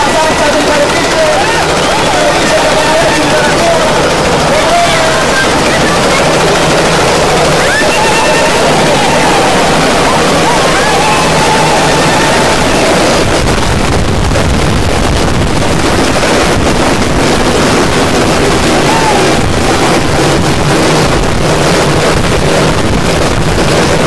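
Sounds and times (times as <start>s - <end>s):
helicopter engine and rotor: 0.0s - 24.0s
wind buffeting microphone: 0.0s - 24.0s.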